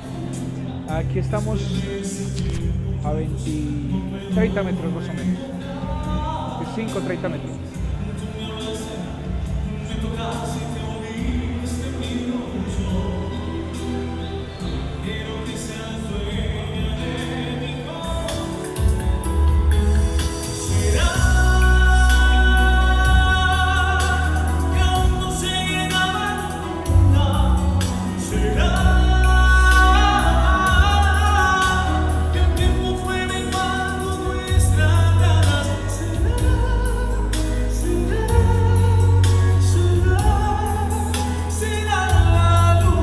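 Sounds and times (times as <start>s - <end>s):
backing track with heavy bass: 0.0s - 43.0s
person singing live: 0.0s - 43.0s.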